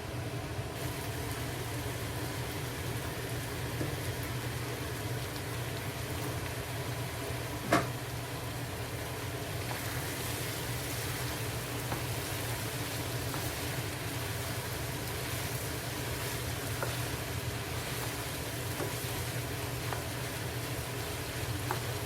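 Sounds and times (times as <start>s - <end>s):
chicken sizzling in a pot: 0.6s - 22.0s.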